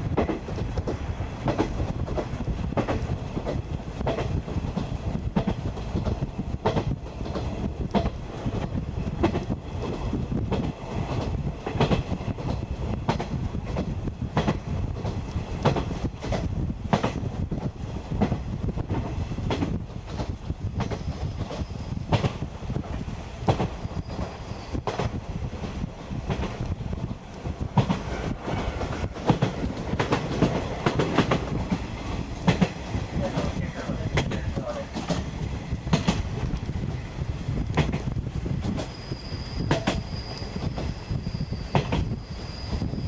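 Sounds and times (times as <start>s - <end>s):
wheels clacking over rail joints: 0.0s - 36.7s
train wheels rumbling on rail: 0.0s - 43.0s.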